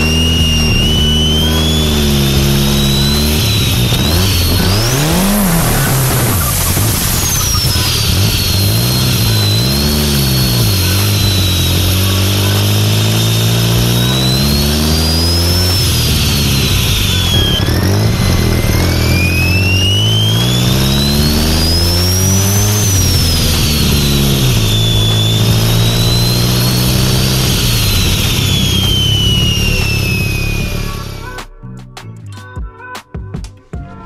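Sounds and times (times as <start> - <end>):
turbo whistle: 0.0 - 31.6
car engine revving: 0.0 - 31.8.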